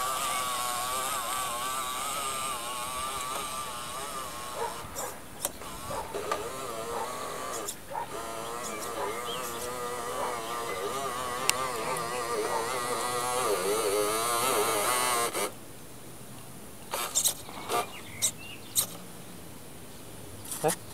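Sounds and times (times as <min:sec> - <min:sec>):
toy truck electric motor whine: 0:00.0 - 0:15.6, 0:16.9 - 0:19.0.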